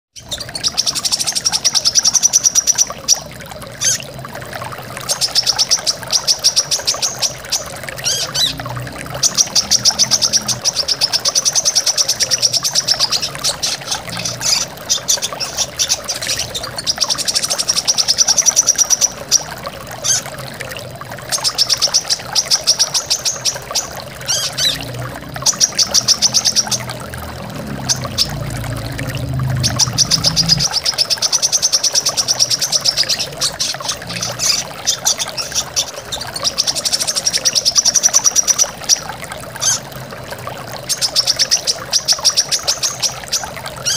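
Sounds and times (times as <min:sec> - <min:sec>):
rushing waterfall: 0:00.2 - 0:43.9.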